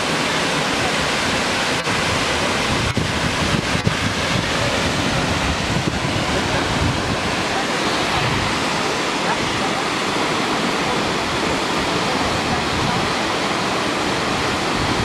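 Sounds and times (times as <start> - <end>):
wind on microphone: 0.0 - 10.2, 11.0 - 15.0
waterfall rushing: 0.0 - 15.0.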